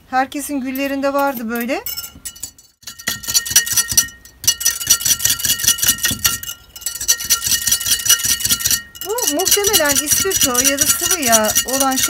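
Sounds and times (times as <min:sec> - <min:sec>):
spoon clinking in a container: 0:00.8 - 0:12.0.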